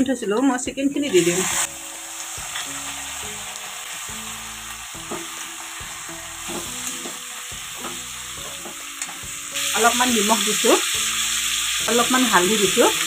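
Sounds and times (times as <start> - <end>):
chicken sizzling in oil: 1.0 - 13.0.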